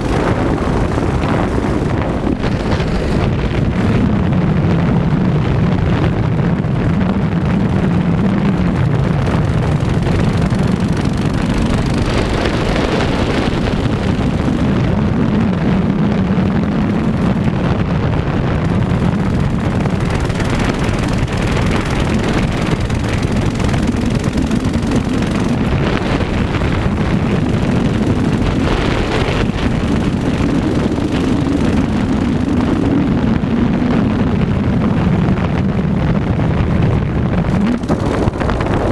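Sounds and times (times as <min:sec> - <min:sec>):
small motorbike engine running: 0:00.0 - 0:38.9
wind buffeting microphone: 0:00.0 - 0:38.9.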